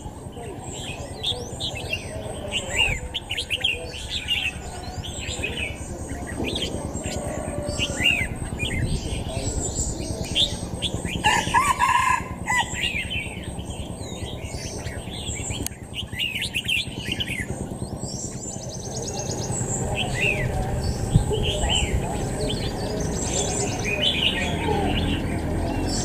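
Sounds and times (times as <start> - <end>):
bird trill: 0.0 - 26.0
songbirds chirping and whistling: 0.0 - 26.0.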